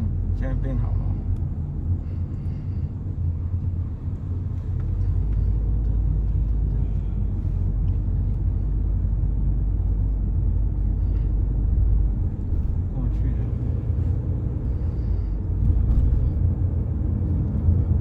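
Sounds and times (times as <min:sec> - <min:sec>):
car interior road rumble: 0:00.0 - 0:18.0.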